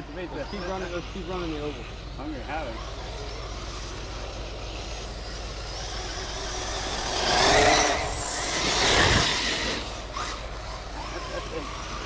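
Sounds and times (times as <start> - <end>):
rc truck motors: 0.0 - 12.0
rising motor whine: 0.0 - 12.0.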